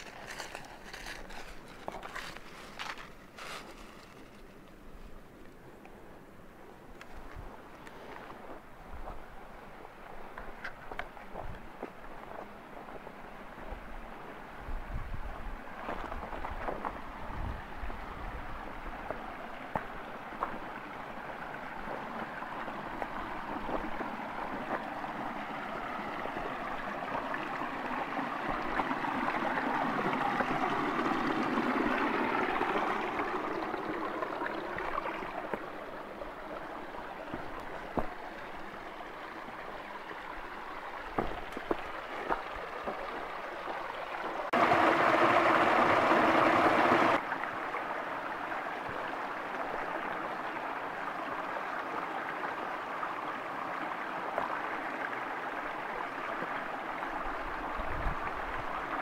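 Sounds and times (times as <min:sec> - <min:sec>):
rush of water: 0:00.0 - 0:05.4, 0:07.1 - 0:59.0
stream trickling over stones: 0:00.0 - 0:05.9, 0:06.9 - 0:59.0.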